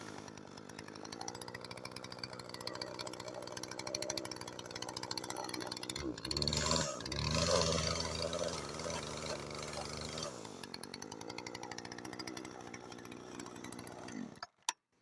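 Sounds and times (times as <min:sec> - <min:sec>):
angle grinder grinding wood: 0:00.0 - 0:14.6.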